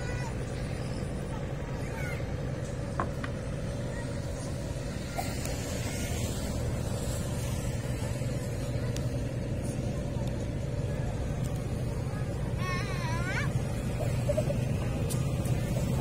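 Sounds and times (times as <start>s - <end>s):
engine running low drone: 0.0s - 16.0s.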